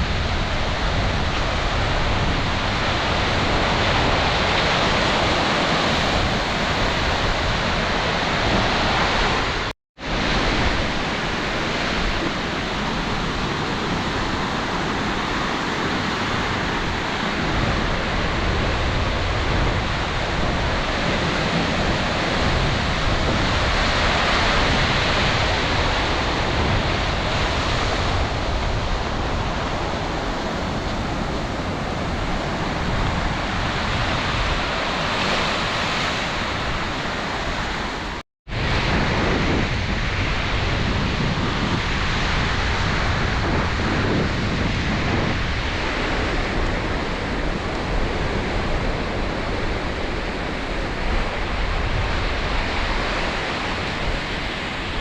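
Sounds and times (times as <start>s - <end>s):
sea surf washing on beach: 0.0s - 55.0s
wind buffeting microphone: 0.0s - 55.0s.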